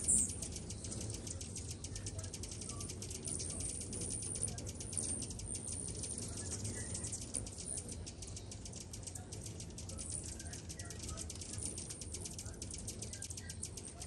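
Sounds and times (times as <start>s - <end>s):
hummingbirds chattering and chipping: 0.0s - 14.0s.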